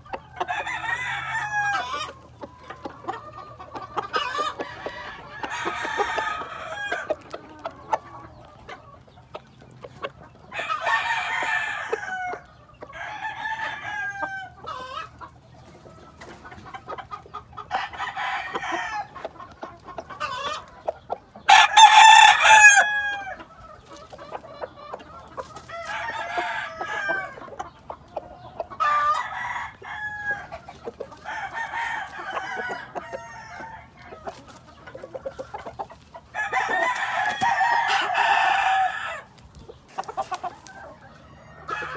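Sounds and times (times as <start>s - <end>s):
roosters crowing: 0.0s - 9.0s, 10.0s - 15.4s, 16.0s - 41.9s
hens clucking: 0.0s - 41.9s.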